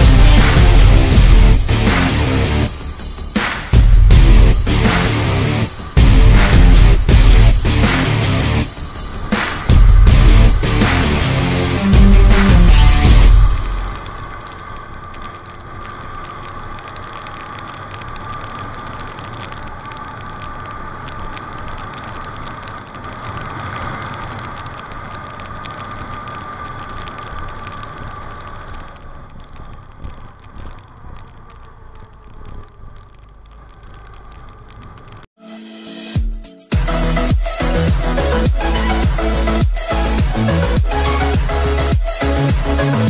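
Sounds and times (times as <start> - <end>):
vehicle road noise: 0.0 - 35.4, 36.8 - 43.0.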